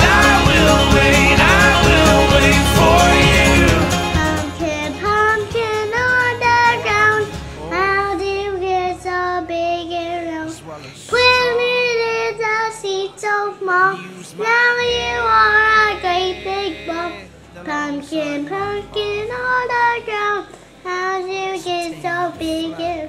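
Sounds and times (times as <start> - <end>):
girl singing: 3.7 - 23.0.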